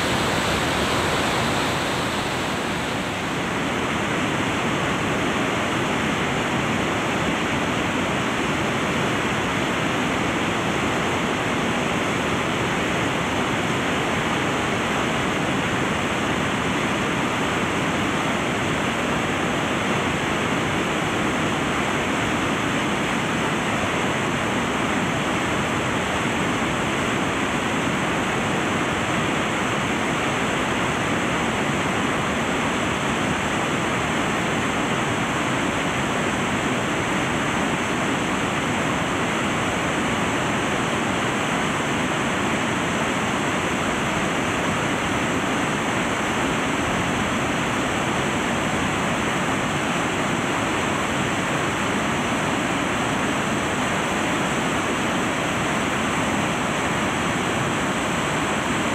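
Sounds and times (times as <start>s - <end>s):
stream rushing over boulders: 0.0s - 58.9s.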